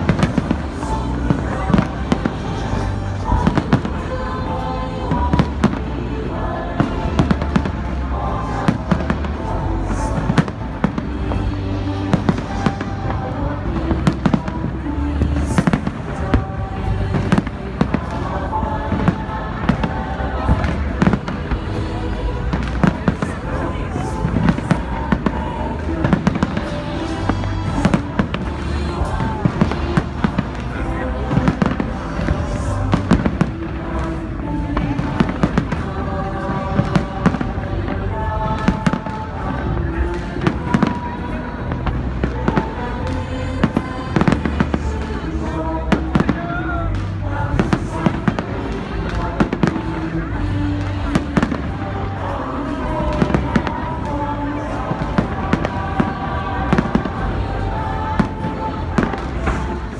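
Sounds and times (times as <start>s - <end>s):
fireworks bangs and crackles: 0.0s - 59.9s
loud music with heavy bass: 0.0s - 59.9s.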